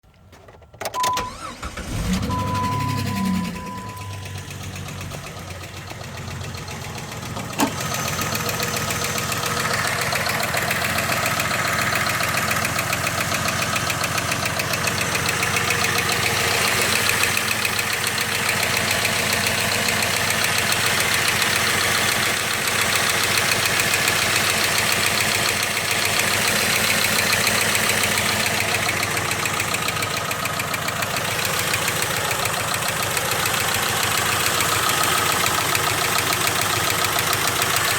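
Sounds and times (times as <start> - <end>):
engine idling with ticking: 0.1 - 37.9.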